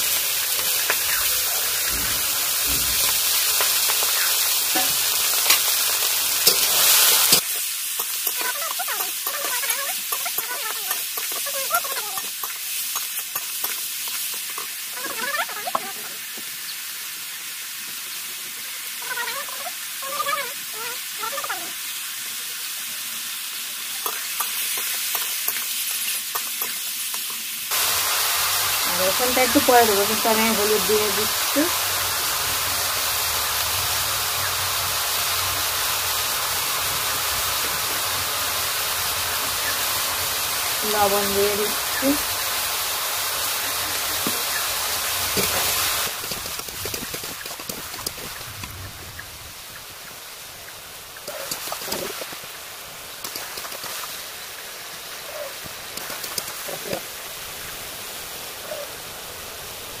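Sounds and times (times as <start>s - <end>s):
chicken sizzling in hot oil: 0.0s - 60.0s.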